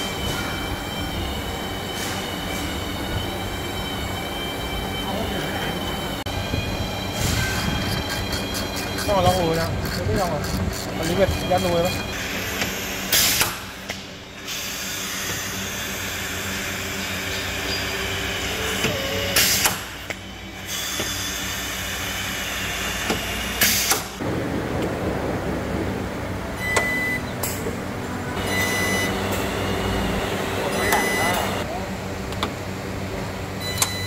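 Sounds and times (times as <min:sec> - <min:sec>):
workshop noise hiss: 0:00.0 - 0:24.8, 0:26.8 - 0:32.5.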